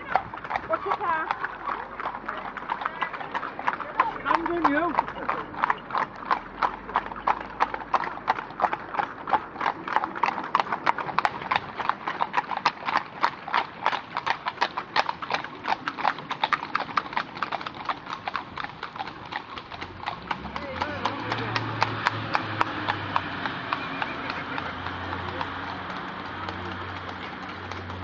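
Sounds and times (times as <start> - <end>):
horse hooves clip-clopping: 0.0 - 28.0.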